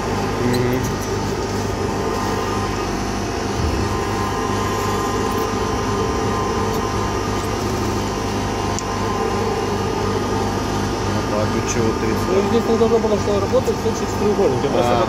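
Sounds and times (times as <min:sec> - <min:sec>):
electric motor and blower humming: 0:00.0 - 0:15.0.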